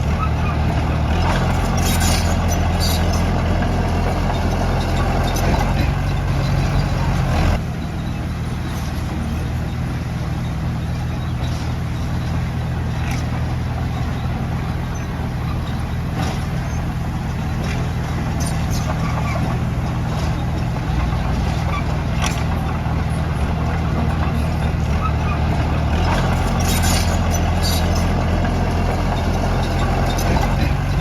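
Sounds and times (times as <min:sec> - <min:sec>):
heavy diesel engine running: 0:00.0 - 0:31.0
metallic clicks and squeaks: 0:01.2 - 0:19.6, 0:24.2 - 0:31.0.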